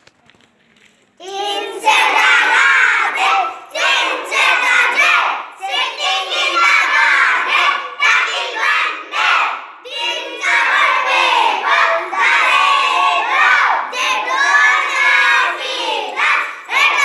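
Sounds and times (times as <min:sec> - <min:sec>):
children reciting in unison: 0:01.2 - 0:17.0.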